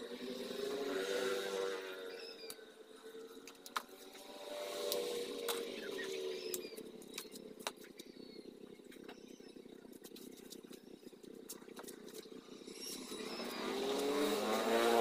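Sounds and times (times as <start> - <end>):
steady low hum: 1.4 - 15.0.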